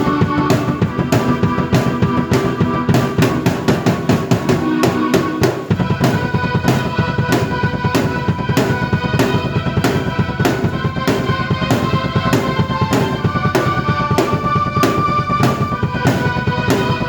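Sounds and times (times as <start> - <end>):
drum kit beat: 0.0 - 17.0
held keyboard notes: 0.0 - 17.0.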